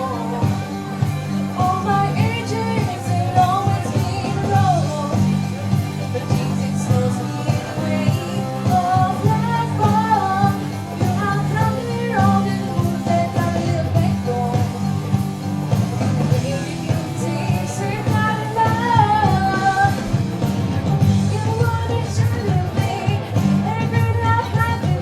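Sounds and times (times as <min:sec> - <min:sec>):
children singing country song: 0:00.0 - 0:25.0
instrumental accompaniment with beat: 0:00.0 - 0:25.0.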